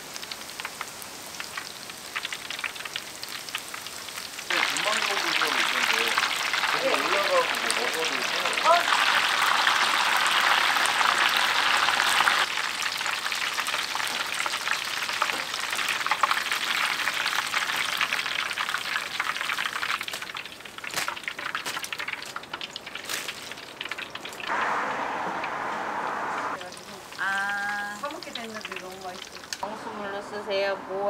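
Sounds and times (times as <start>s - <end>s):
battered food frying in hot oil: 0.0s - 25.6s, 26.5s - 30.4s.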